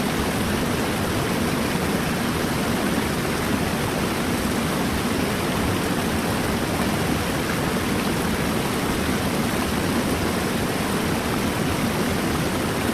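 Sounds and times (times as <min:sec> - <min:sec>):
rushing river water: 0:00.0 - 0:12.9.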